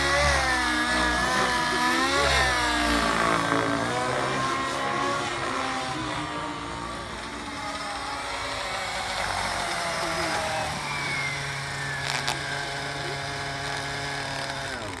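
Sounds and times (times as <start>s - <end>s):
model helicopter engine and rotor: 0.0s - 15.0s.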